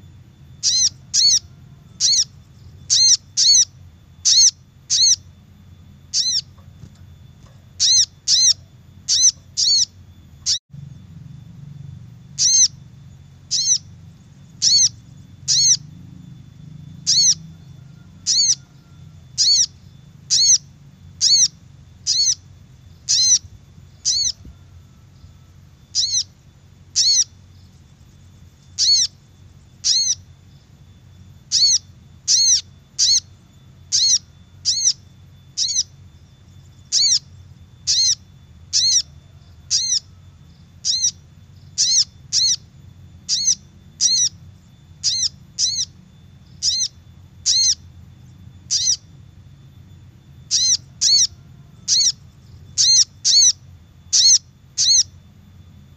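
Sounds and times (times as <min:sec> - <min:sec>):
bird calling high-pitched note: 0:00.0 - 0:55.9.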